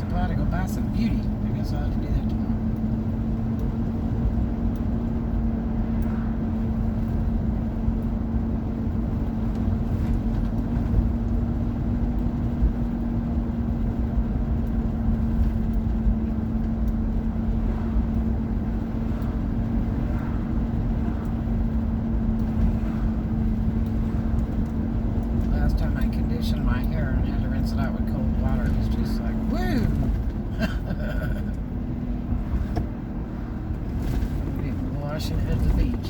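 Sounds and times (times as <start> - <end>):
car engine rumble from inside: 0.0 - 36.0.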